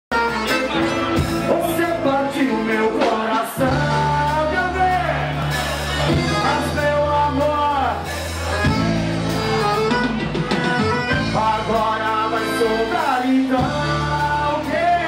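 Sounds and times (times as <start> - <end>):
accordion: 0.1 - 15.0
drums: 0.1 - 15.0
electric bass: 0.1 - 15.0
keyboard: 0.1 - 15.0.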